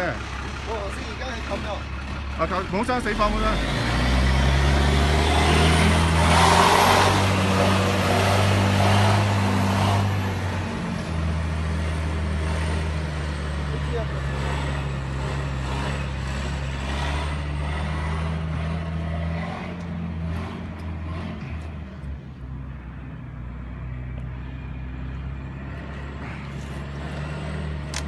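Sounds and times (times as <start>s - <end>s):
vehicle engines idling: 0.0s - 28.0s.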